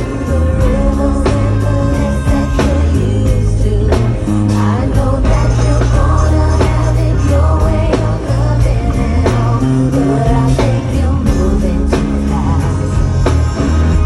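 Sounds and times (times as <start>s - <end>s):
deep bass notes: 0.0s - 14.0s
live pop band music: 0.0s - 14.0s
steady drum beat: 0.0s - 14.0s.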